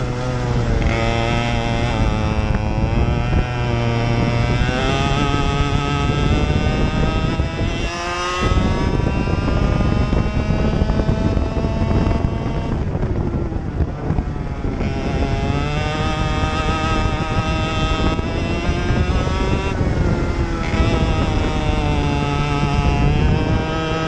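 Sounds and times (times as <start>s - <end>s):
racing kart engine: 0.0s - 24.0s.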